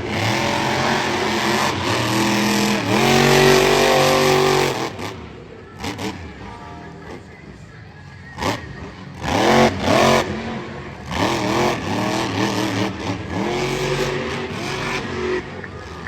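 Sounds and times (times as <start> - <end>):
monster truck engine revving: 0.0 - 7.4, 8.3 - 16.0.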